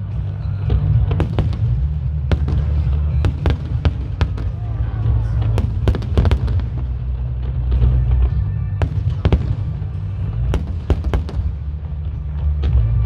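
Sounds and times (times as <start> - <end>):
low music: 0.0 - 13.0
fireworks bangs: 1.0 - 12.4.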